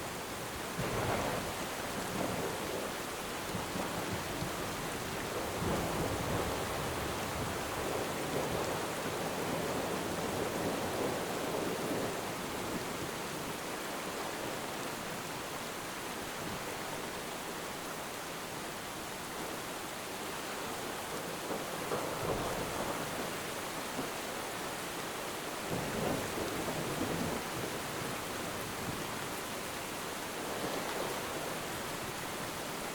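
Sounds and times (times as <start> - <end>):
steady rain: 0.0 - 32.9.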